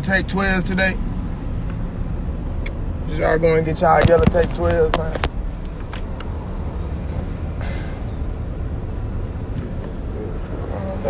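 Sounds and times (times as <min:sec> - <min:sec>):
car cabin low rumble: 0:00.0 - 0:11.0.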